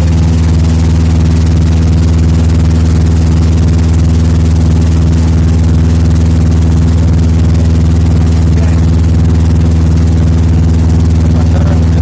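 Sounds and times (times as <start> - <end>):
nut cracking machine humming: 0.0 - 12.0.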